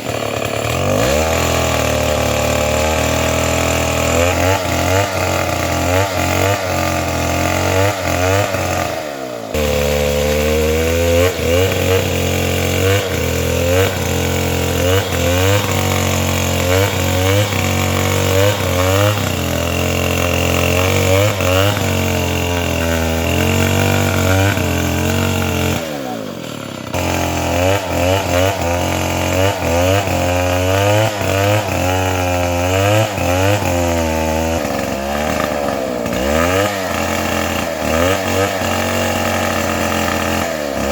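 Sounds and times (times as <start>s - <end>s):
chainsaw cutting: 0.0s - 40.9s.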